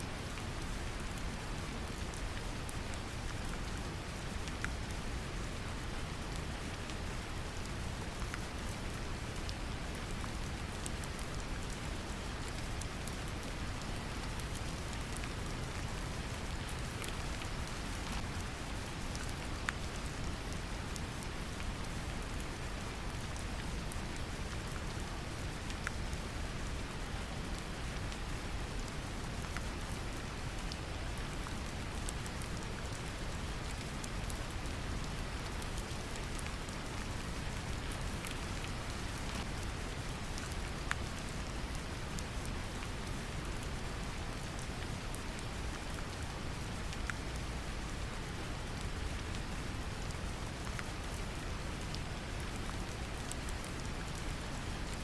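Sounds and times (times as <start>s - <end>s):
gentle rain patter: 0.0s - 55.0s.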